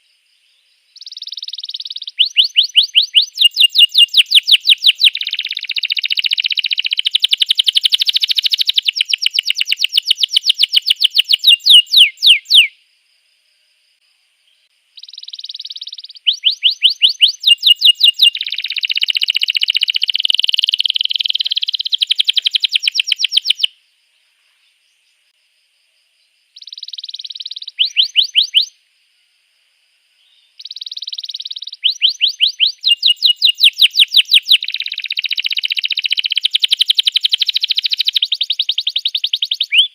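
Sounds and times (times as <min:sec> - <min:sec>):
canary singing trills: 0:00.9 - 0:12.8, 0:15.0 - 0:23.8, 0:26.6 - 0:28.8, 0:30.2 - 0:39.9.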